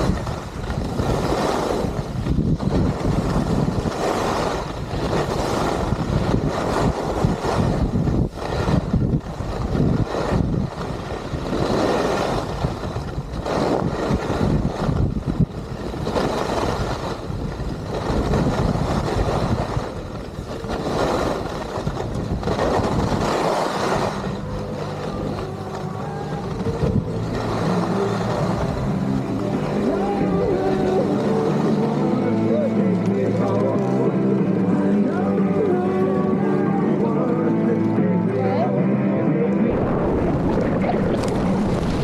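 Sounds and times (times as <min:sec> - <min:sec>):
skis scraping on snow: 0:00.0 - 0:35.8, 0:39.7 - 0:42.0
wind on microphone: 0:00.0 - 0:37.3, 0:39.6 - 0:42.0.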